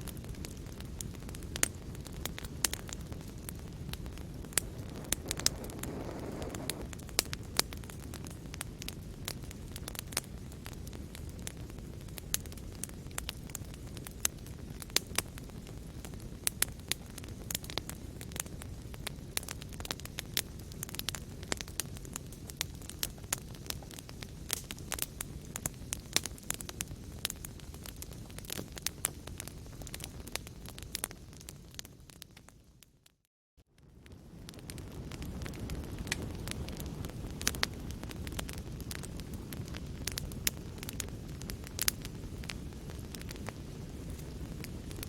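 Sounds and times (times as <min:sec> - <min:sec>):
fire crackling in fireplace: 0:00.0 - 0:45.0.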